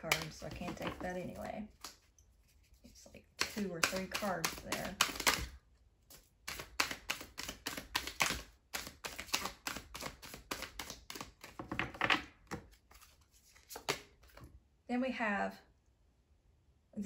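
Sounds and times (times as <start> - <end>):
cards being shuffled: 0.0 - 11.8, 12.5 - 14.4.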